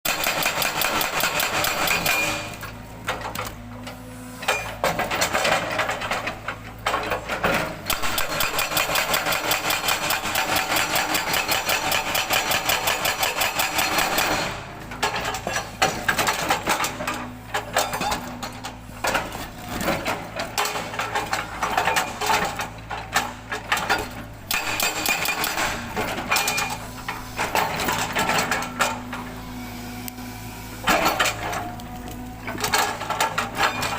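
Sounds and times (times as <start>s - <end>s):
hydraulic breaker hammering rock: 0.1s - 3.3s, 4.4s - 29.3s, 30.8s - 31.8s, 32.4s - 33.9s
excavator engine running: 0.1s - 33.9s.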